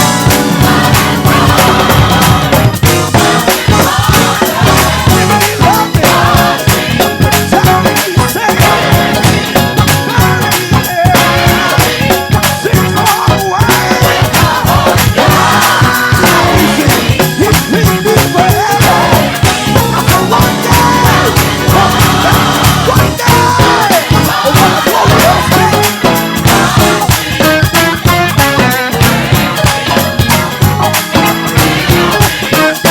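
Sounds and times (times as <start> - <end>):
bass: 0.0 - 32.9
drums steady beat: 0.0 - 32.9
guitar: 0.0 - 32.9
horns: 0.0 - 32.9
organ and keys: 0.0 - 32.9.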